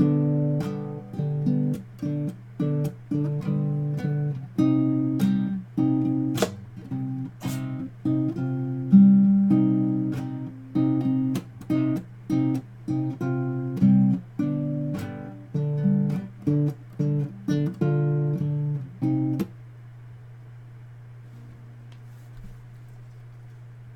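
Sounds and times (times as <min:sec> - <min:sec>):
guitar strummed chords: 0:00.0 - 0:19.6
low steady hum: 0:00.0 - 0:23.9.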